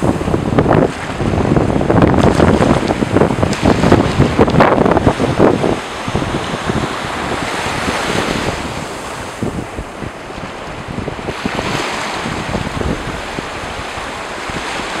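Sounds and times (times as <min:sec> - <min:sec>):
ocean surf on a beach: 0:00.0 - 0:15.0
wind buffeting microphone: 0:00.0 - 0:15.0.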